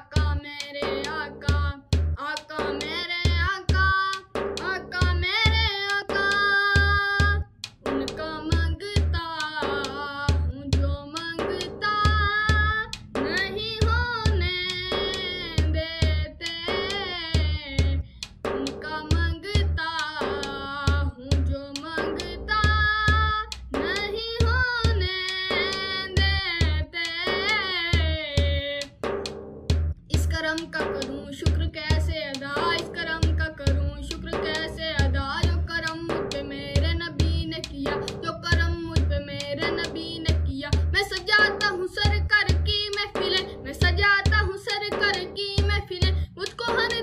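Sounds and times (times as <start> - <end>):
boy singing: 0.0 - 28.9, 30.0 - 47.0
steady drum beat: 0.0 - 47.0.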